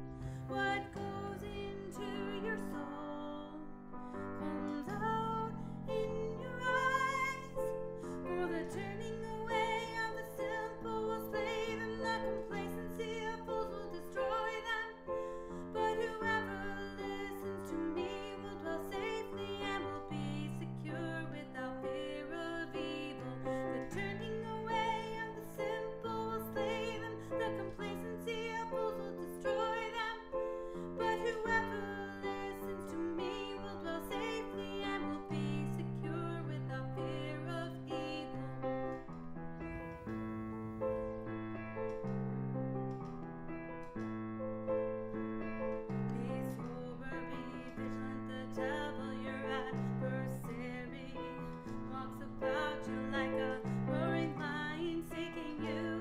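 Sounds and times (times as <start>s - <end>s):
piano chords: 0.0s - 56.0s.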